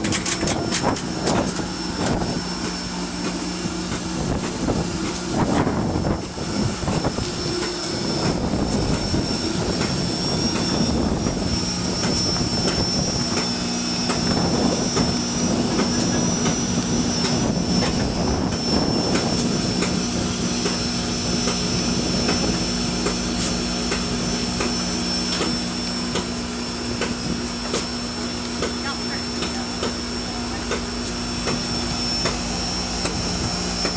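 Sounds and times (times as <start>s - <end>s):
low hum: 0.0s - 33.9s
steam hissing: 0.0s - 33.9s
thin high whine: 0.0s - 33.9s.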